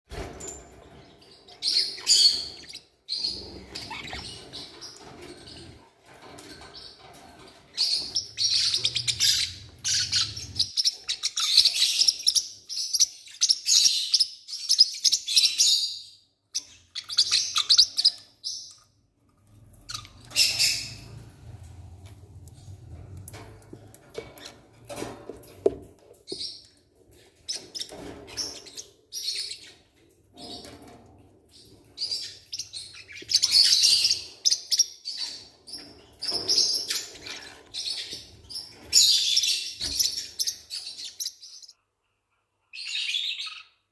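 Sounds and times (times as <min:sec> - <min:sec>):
parrot chicks peeping: 0:00.1 - 0:43.9.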